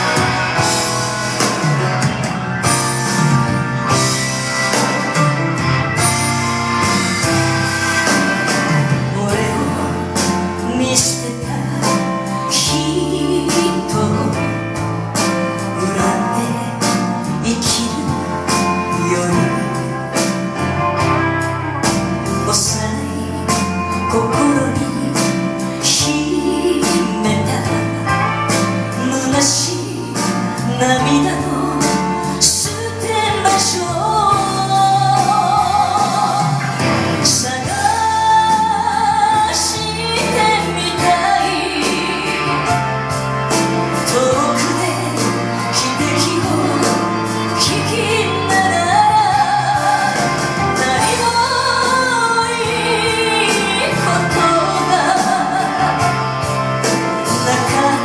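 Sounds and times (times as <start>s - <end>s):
band accompaniment: 0.0s - 58.0s
woman singing ballad: 0.0s - 58.0s.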